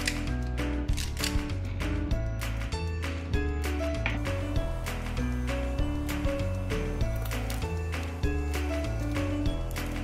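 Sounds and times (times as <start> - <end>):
background music with bass and percussion: 0.0 - 10.0.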